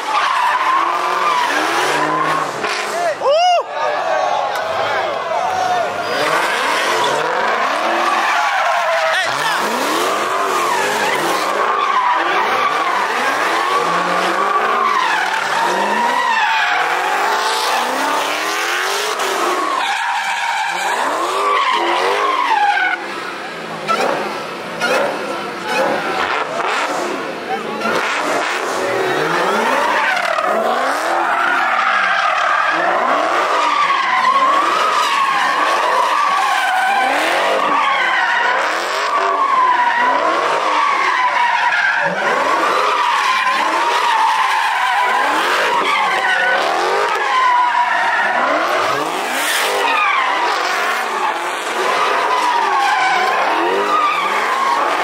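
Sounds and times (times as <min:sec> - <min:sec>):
car engine revving: 0:00.0 - 0:03.3, 0:04.5 - 0:19.8, 0:20.7 - 0:55.0
tyres squealing: 0:04.6 - 0:23.1, 0:27.4 - 0:55.0.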